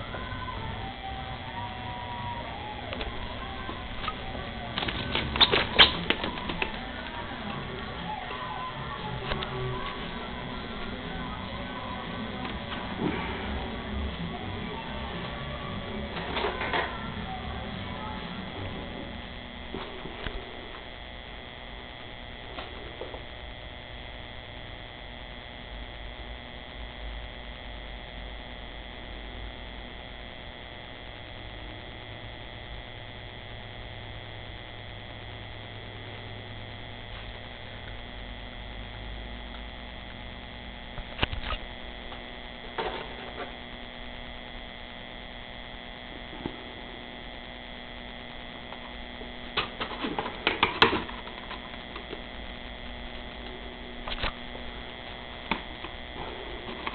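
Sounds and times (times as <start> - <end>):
electrical hum: 0.0 - 56.9.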